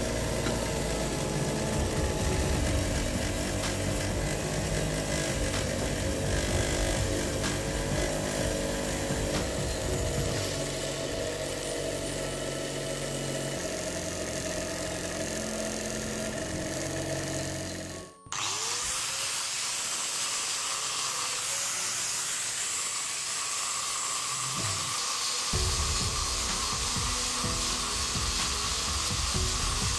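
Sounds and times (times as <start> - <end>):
power sander: 0.0 - 29.9
rotary tool motor hum: 0.0 - 29.9.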